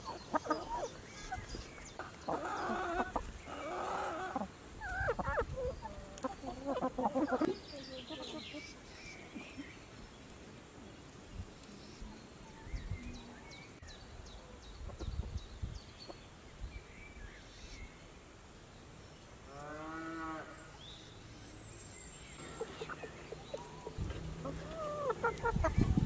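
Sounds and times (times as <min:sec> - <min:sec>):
small birds chirping faintly: 0:00.0 - 0:26.0.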